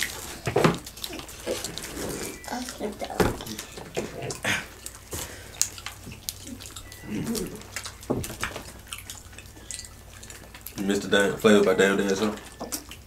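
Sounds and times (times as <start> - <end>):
wet chewing and lip smacking: 0.0 - 13.0.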